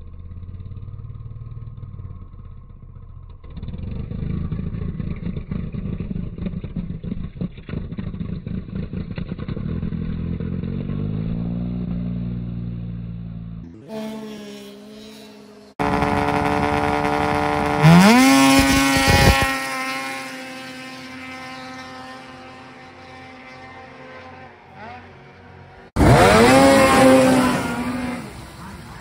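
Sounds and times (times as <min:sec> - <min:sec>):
snowmobile engine wailing: 0:00.0 - 0:29.0.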